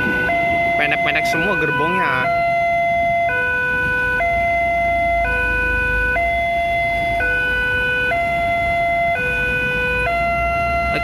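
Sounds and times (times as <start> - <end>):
level crossing alarm two-tone warning: 0.0 - 11.0.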